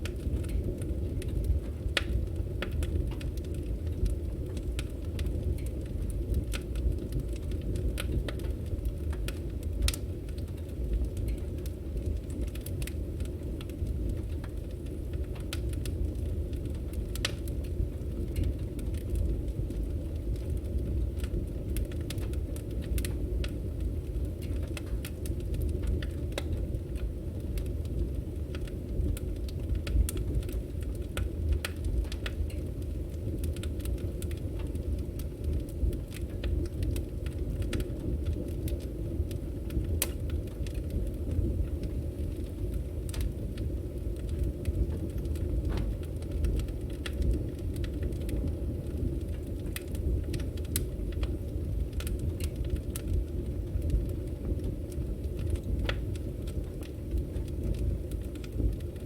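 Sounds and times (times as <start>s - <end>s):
low rush of flames: 0.0s - 59.0s
wood crackling and popping: 0.0s - 59.0s.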